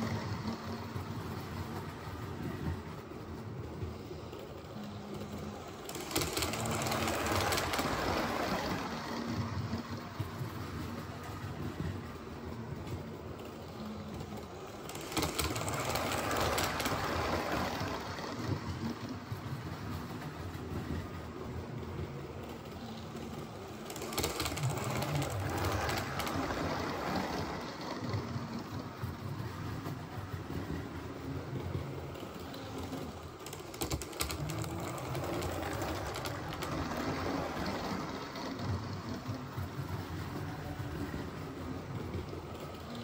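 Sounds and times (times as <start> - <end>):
wheels running on track: 0.0 - 43.0
model train motor whirring: 4.0 - 12.3, 13.2 - 21.2, 22.1 - 43.0.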